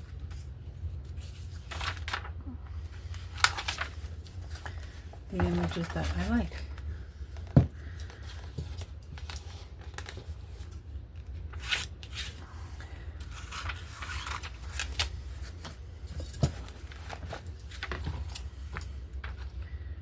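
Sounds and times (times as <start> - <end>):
paper rustling: 0.0 - 19.7
low steady hum: 0.0 - 20.0.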